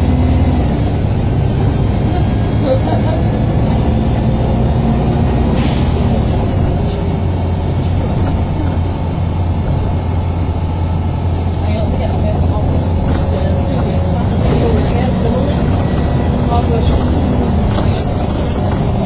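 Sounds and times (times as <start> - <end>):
bus diesel engine drone: 0.0 - 19.0
road noise: 0.0 - 19.0.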